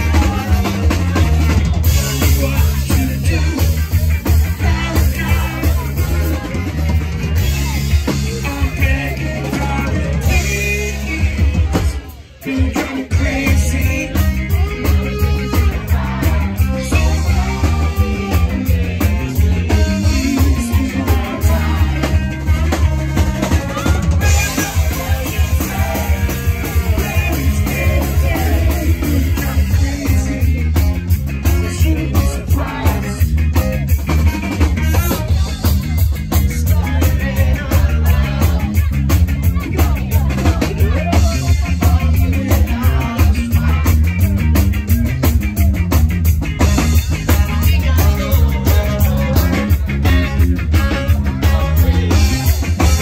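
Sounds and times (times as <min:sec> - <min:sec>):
drum kit beat: 0:00.0 - 0:53.0
heavy bass line: 0:00.0 - 0:53.0
man singing: 0:00.0 - 0:53.0
reggae rock band playing: 0:00.0 - 0:53.0.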